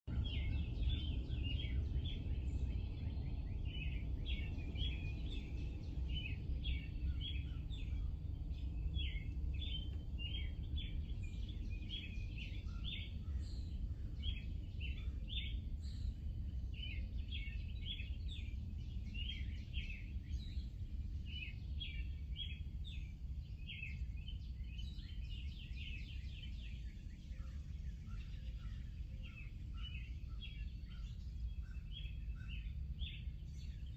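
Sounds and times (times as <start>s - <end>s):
small birds chirping: 0.0s - 33.9s
low wind rumble: 0.1s - 33.9s.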